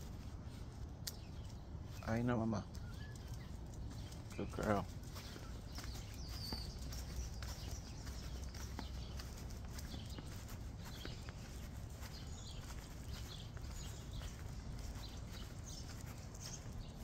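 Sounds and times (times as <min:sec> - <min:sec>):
small birds chirping: 0:00.0 - 0:17.0
steady low rumble: 0:00.0 - 0:17.0
footsteps on concrete: 0:02.7 - 0:17.0.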